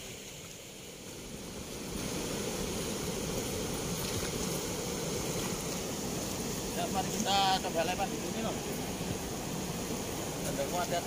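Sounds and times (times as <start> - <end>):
water rushing through sluice gates: 0.0 - 11.0.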